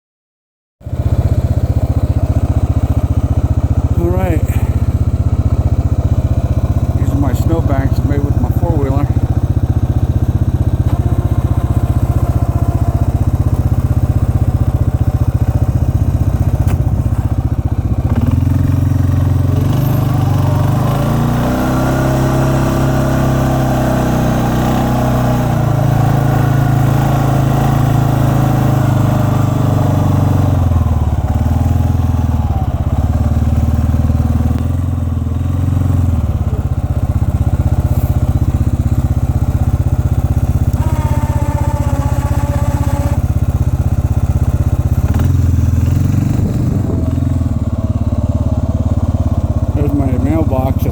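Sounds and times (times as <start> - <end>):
small petrol engine running: 0.8 - 50.9.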